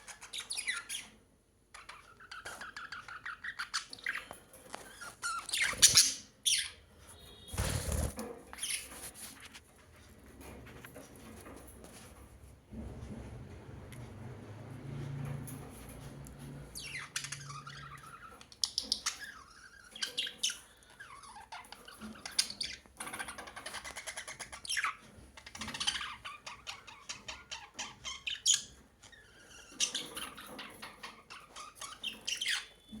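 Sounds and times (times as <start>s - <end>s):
birds chirping and squawking: 0.0s - 9.6s, 15.5s - 33.0s.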